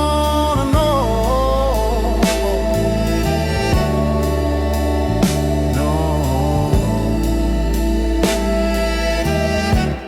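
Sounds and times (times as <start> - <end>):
heavy bass line: 0.0 - 10.0
sustained keyboard chords: 0.0 - 10.0.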